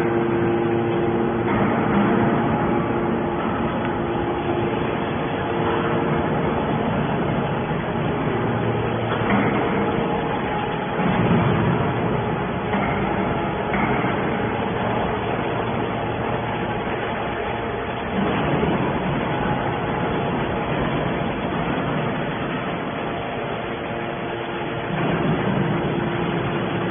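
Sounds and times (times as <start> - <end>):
hydraulic baler machine noise: 0.0 - 26.9.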